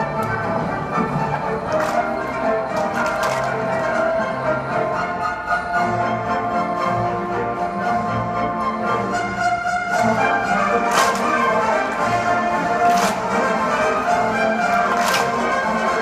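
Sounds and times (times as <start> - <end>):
orchestra with brass and strings: 0.0 - 16.0.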